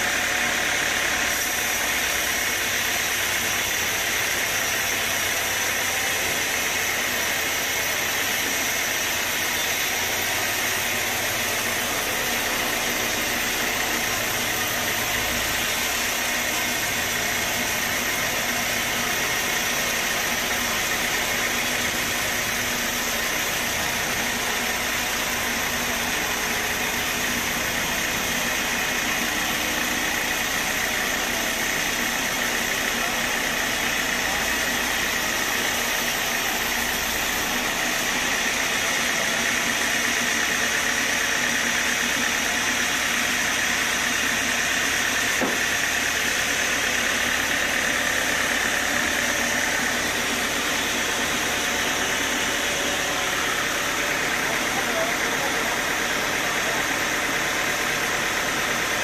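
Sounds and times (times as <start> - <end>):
band sawmill running: 0.0 - 59.0.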